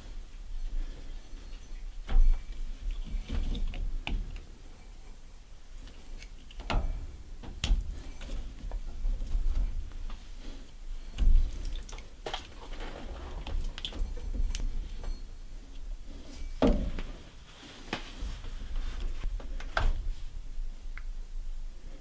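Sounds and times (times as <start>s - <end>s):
rubber hoses squishing: 0.0s - 20.6s.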